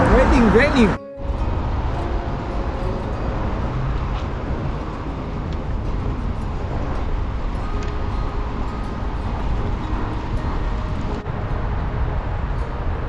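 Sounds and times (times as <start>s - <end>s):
passing traffic: 0.0s - 13.0s
wind rumble on microphone: 0.0s - 13.0s.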